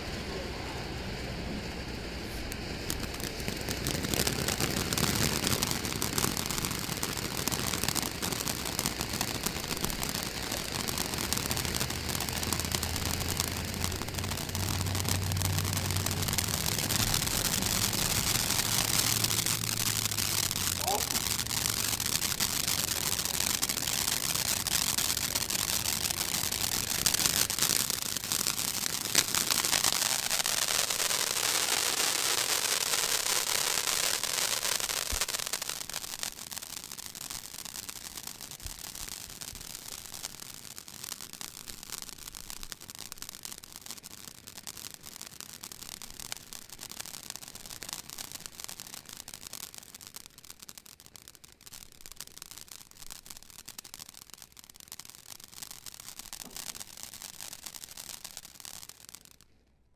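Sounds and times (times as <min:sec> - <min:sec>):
fireworks fountain hissing: 0:00.0 - 0:59.7.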